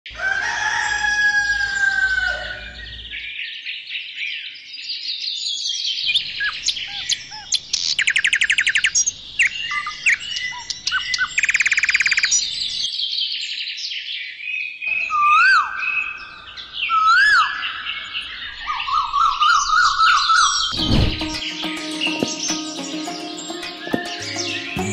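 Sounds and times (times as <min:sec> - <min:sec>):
songbirds chirping and singing: 0:00.1 - 0:24.9.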